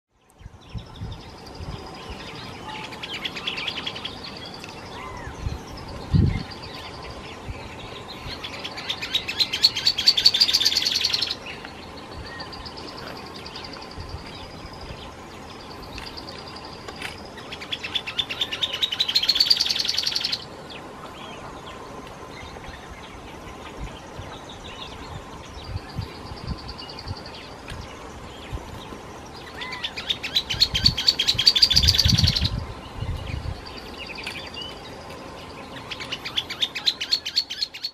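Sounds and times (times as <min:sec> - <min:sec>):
bird trilling song: 0:00.3 - 0:21.8, 0:22.4 - 0:37.9.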